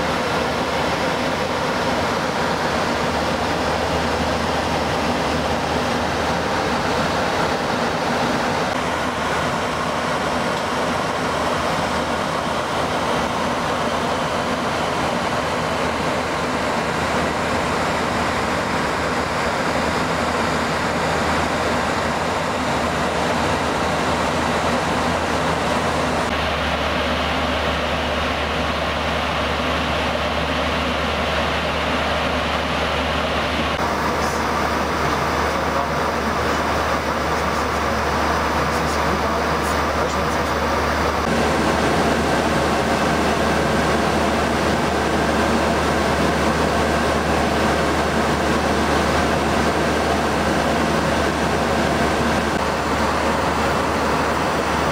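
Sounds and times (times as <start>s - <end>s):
airflow rushing: 0.0s - 54.9s
low engine drone: 0.0s - 54.9s.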